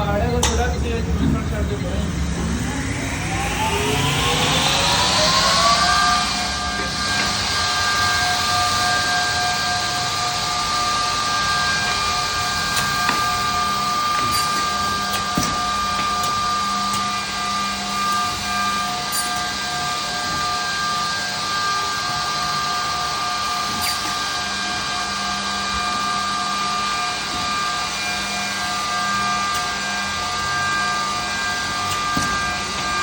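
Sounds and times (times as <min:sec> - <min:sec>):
edge banding machine running: 0:00.0 - 0:33.0.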